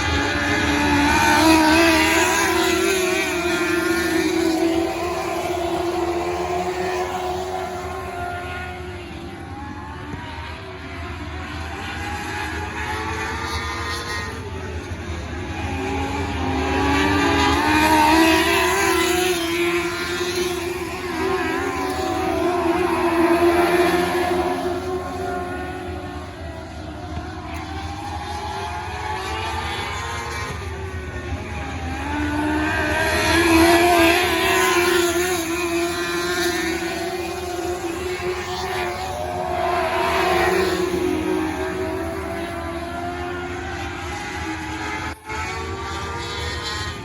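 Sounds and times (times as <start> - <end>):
racing car engines revving: 0.0 - 47.0.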